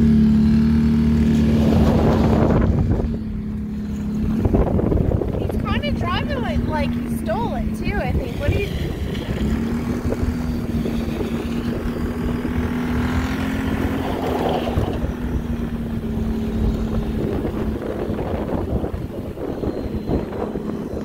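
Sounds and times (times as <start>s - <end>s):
quad bike engine running: 0.0s - 21.0s
wind buffeting microphone: 1.0s - 21.0s.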